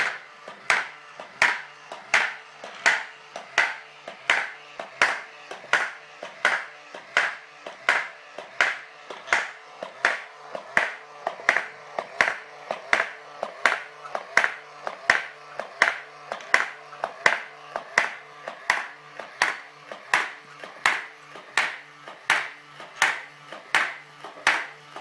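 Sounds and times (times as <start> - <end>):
small electric motor humming: 0.0 - 25.0.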